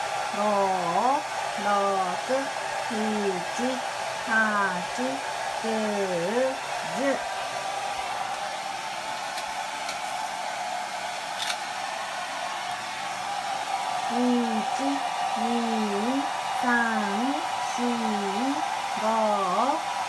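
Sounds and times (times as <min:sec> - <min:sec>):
hair dryer whirring: 0:00.0 - 0:20.0.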